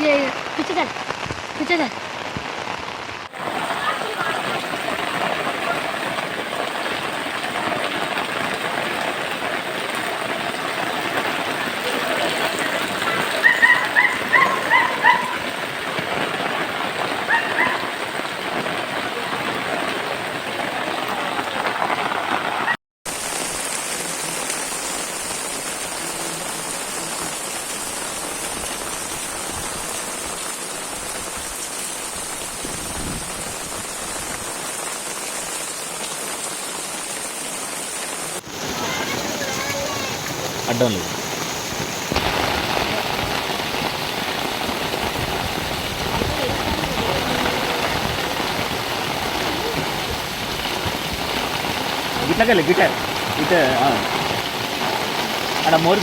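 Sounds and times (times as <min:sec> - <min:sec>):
heavy rain: 0:00.0 - 0:56.0
running floodwater: 0:00.0 - 0:56.0.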